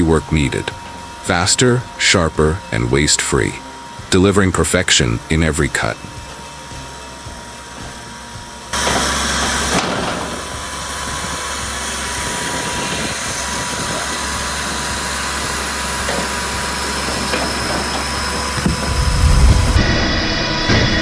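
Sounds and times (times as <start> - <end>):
wood-processing machinery drone: 0.0 - 21.0.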